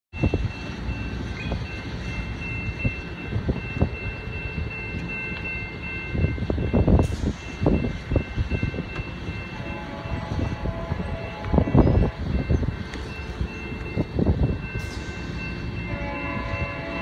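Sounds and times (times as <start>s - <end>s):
train rumble: 0.1s - 17.0s.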